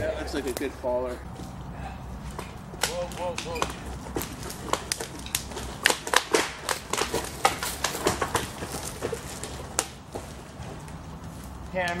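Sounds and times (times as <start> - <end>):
dry wood creaking and cracking: 0.1 - 12.0.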